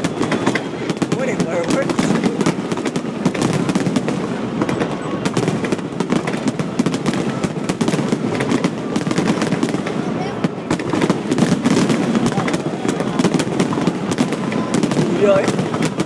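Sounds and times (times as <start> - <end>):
fireworks crackling and banging: 0.0 - 16.0.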